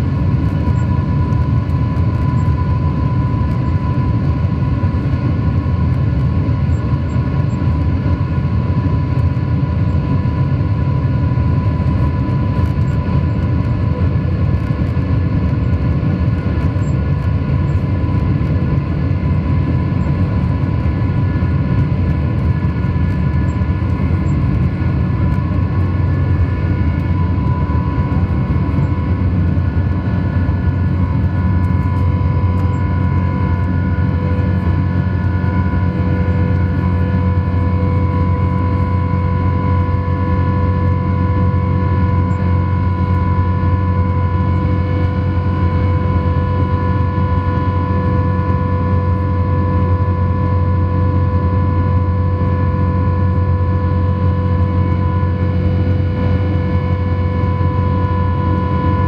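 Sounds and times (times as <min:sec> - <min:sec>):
deep engine rumble: 0:00.0 - 0:59.0
jet engine whine: 0:00.0 - 0:59.0.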